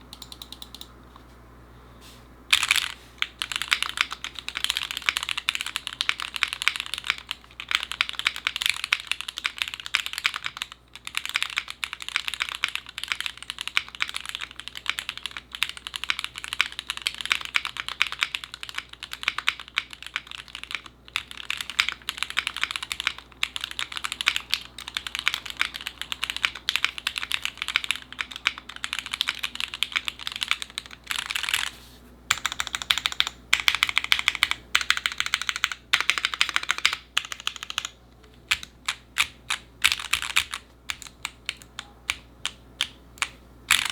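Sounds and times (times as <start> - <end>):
fast mechanical keyboard typing: 0.1 - 0.9, 2.5 - 31.7, 32.3 - 43.9.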